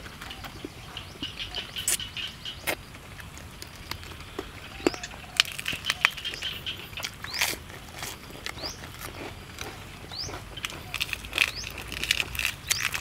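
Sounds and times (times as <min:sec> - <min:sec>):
lettuce leaves crinkling and tearing: 0:00.0 - 0:13.0
mouth clicks and smacks: 0:00.4 - 0:13.0.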